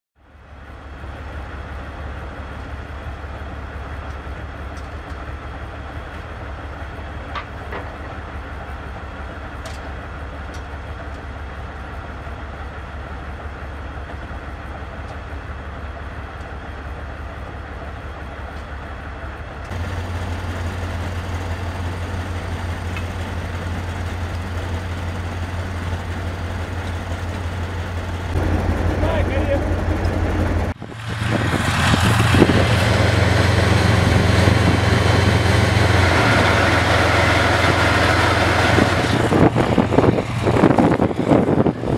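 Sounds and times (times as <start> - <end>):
diesel engine idling: 0.2 - 41.9.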